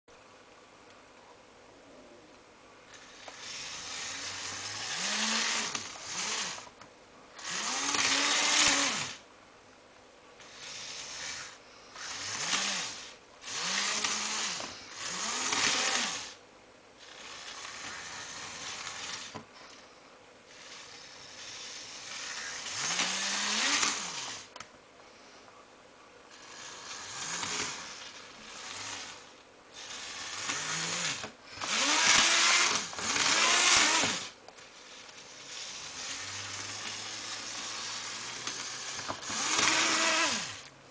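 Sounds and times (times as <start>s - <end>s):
model train motor whining: 2.9s - 6.8s, 7.4s - 9.2s, 10.4s - 16.4s, 17.0s - 19.9s, 20.5s - 24.7s, 26.3s - 40.7s.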